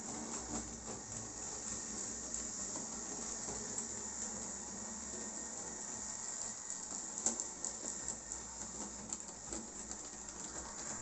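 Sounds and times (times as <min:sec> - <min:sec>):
model locomotive whirring: 0:00.0 - 0:11.0.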